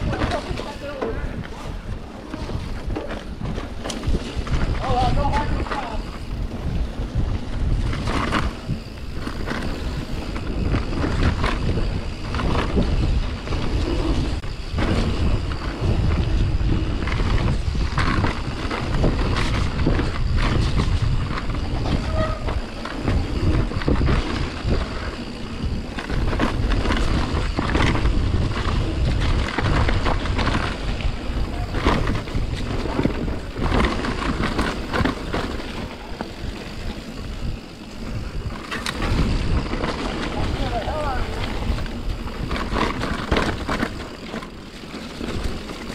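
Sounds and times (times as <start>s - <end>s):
bike rattling and knocking: 0.0s - 45.9s
mountain bike riding rumble: 0.0s - 45.9s.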